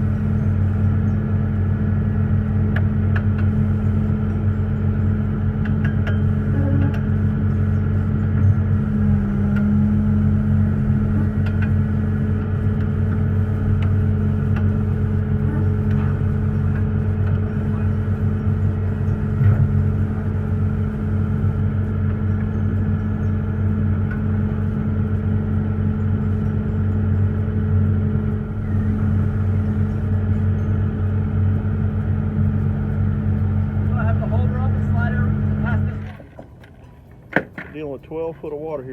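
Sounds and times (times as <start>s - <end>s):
large engine droning: 0.0s - 38.9s.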